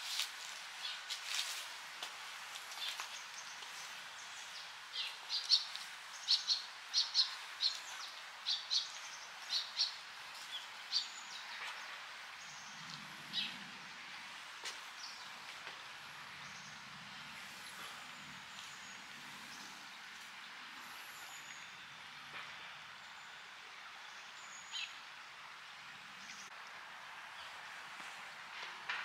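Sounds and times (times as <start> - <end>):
stream flowing: 3.2 - 28.5.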